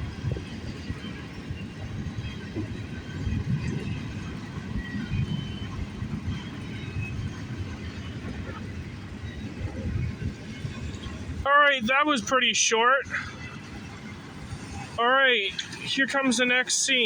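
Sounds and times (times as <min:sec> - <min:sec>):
freight train rumbling: 0:00.0 - 0:17.0
wheels squealing: 0:00.0 - 0:17.0.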